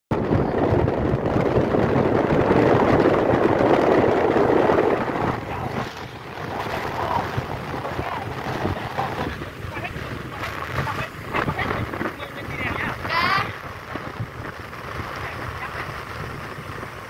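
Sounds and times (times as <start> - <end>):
motorbike running: 0.1 - 17.0
wind rush over microphone: 0.1 - 17.0.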